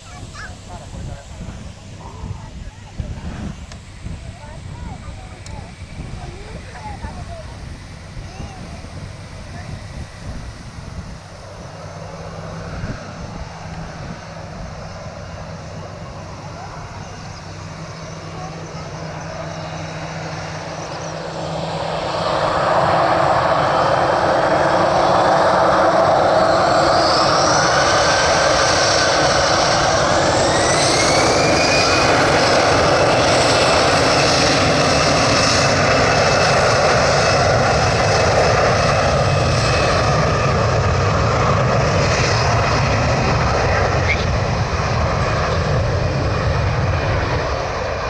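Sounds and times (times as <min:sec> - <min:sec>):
jet engines roaring with whine: 0:00.0 - 0:48.0.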